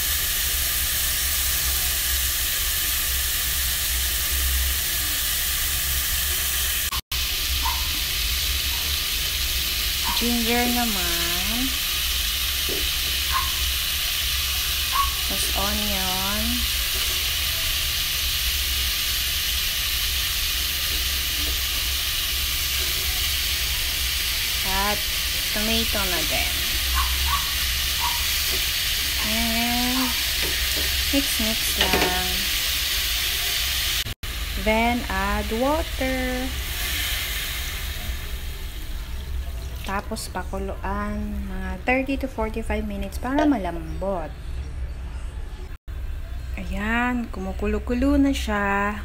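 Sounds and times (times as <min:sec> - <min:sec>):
meat sizzling in a hot pan: 0:00.0 - 0:40.3.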